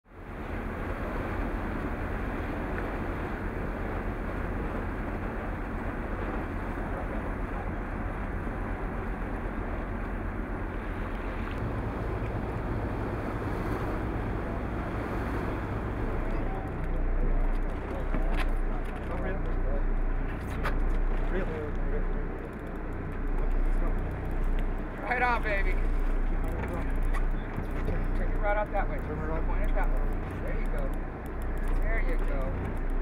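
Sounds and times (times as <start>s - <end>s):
boat engine humming: 0.0s - 33.0s
water rushing: 0.2s - 33.0s.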